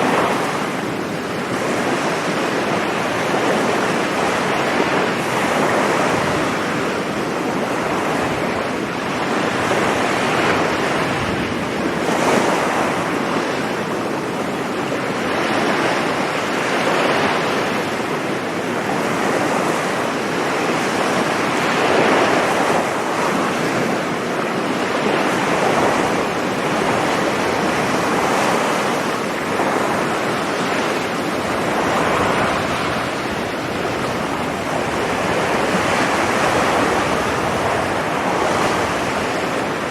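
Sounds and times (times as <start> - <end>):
sea surf washing onto beach: 0.0 - 39.9.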